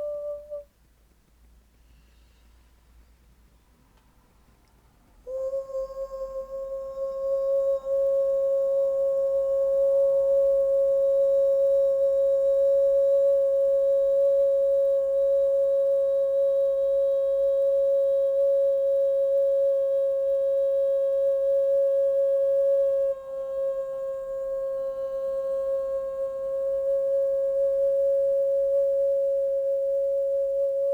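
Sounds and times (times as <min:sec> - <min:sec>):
singing bowl tone: 0:00.0 - 0:00.6, 0:05.3 - 0:30.9.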